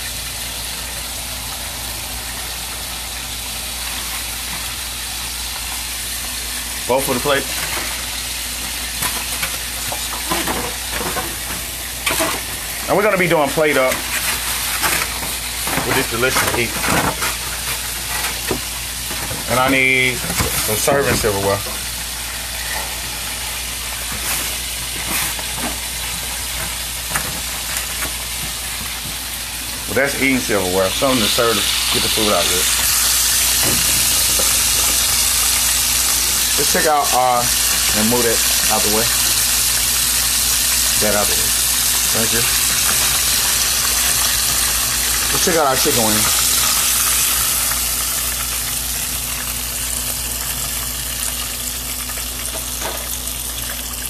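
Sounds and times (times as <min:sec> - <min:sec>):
chicken wings sizzling in oil: 0:00.0 - 0:54.0.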